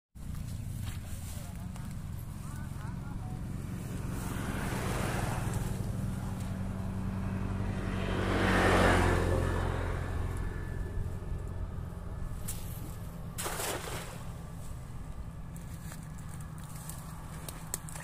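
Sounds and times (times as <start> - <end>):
vehicle engine passing by: 0.3 - 18.0.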